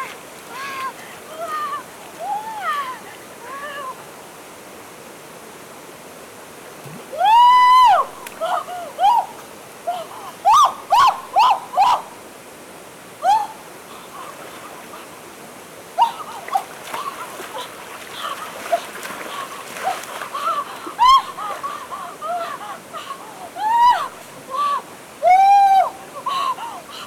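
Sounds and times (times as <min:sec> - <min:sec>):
running water: 0:00.0 - 0:27.0.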